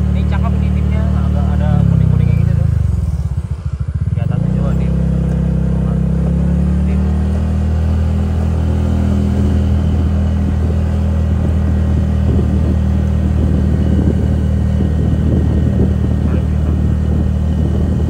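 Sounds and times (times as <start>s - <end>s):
scooter engine droning: 0.0s - 18.0s
wind and road rumble: 0.0s - 18.0s.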